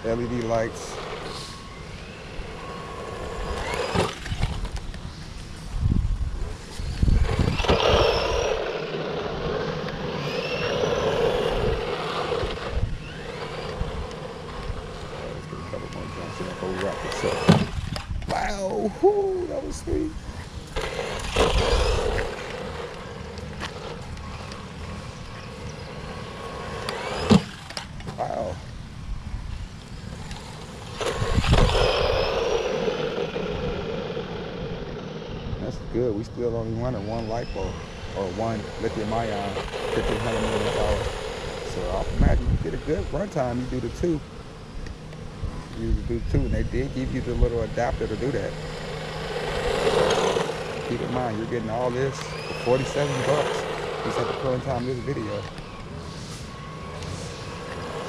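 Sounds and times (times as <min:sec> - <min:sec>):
electric motor whining: 0:00.0 - 0:58.0.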